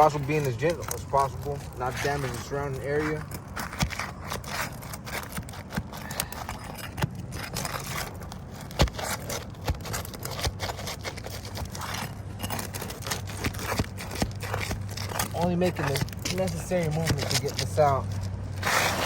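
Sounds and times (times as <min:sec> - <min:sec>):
pry bar scraping under shingle: 0:00.0 - 0:19.0.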